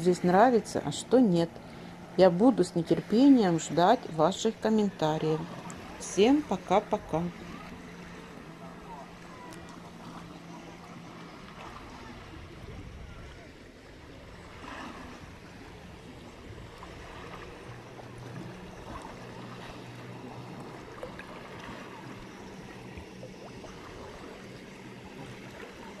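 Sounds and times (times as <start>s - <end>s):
steady low hum: 0.0s - 26.0s
water lapping on sand: 0.0s - 26.0s.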